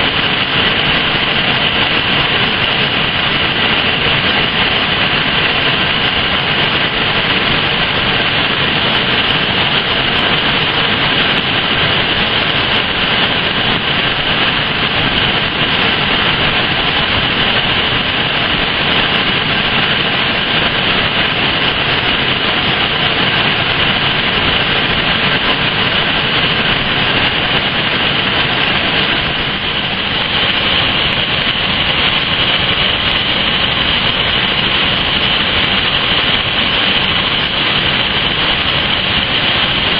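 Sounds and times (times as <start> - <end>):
industrial foundry roar: 0.0 - 39.9
molten metal pouring with hiss: 0.0 - 39.9.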